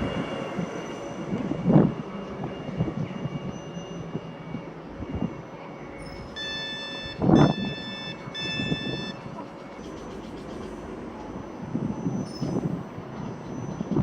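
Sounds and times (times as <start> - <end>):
train door warning beeps: 0.0 - 14.0.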